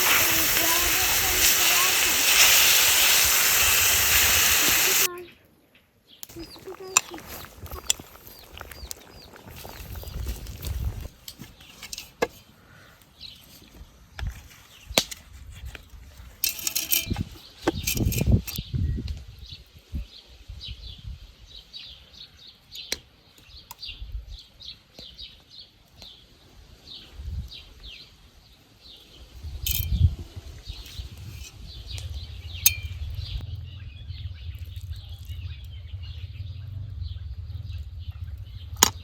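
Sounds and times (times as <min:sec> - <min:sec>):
small birds chirping: 0:00.0 - 0:11.8, 0:17.1 - 0:39.0.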